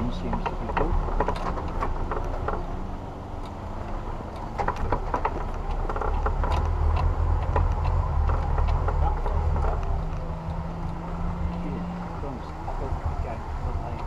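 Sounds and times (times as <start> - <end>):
knocks and clicks over bumps: 0.0 - 14.0
off-road vehicle low rumble: 0.0 - 14.0.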